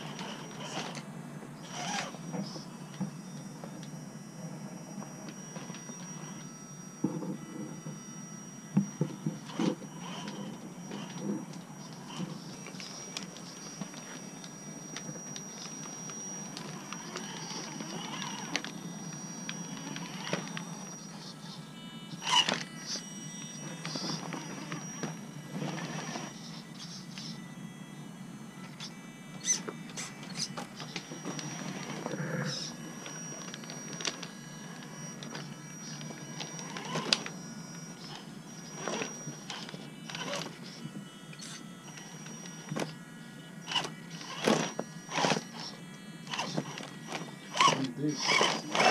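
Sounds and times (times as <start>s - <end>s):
high electric motor whine: 0.0s - 48.9s.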